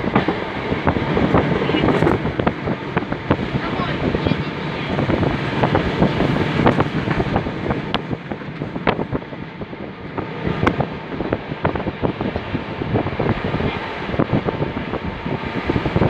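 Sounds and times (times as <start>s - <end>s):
sharp clicks of train wheels: 0.0s - 15.9s
train wheels rumbling on rails: 0.0s - 16.0s
wind rushing over microphone: 0.0s - 16.0s.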